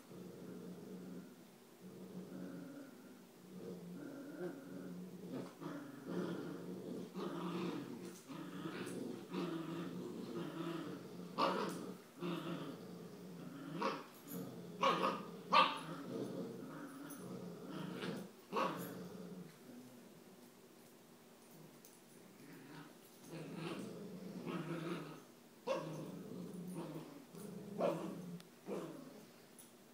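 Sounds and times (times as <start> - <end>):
puppies play-growling: 0.0 - 20.5, 21.4 - 29.7.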